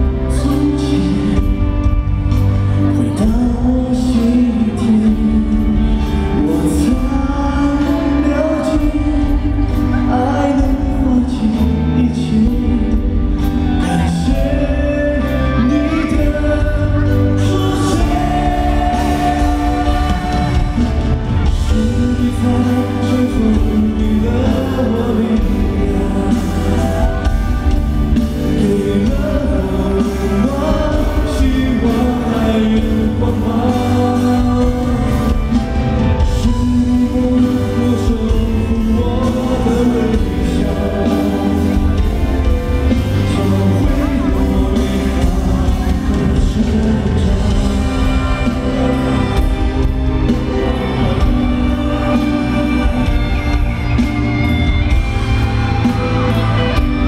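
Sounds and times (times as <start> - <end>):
man singing into microphone: 0.0 - 54.2
full band playing: 0.0 - 57.0.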